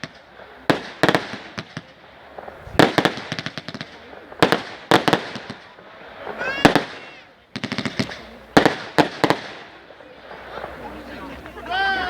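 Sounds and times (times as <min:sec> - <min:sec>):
fireworks bangs with crackle: 0:00.0 - 0:12.0.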